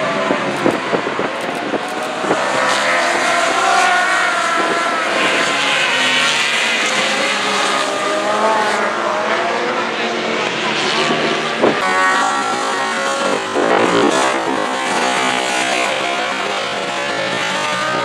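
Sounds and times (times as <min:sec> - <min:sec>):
racing motorcycles passing: 0:00.0 - 0:18.0.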